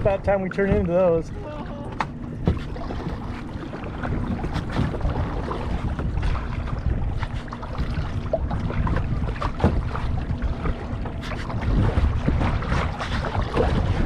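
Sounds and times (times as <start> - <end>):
wind buffeting microphone: 0.0 - 14.0
small waves splashing against kayak: 1.3 - 14.0.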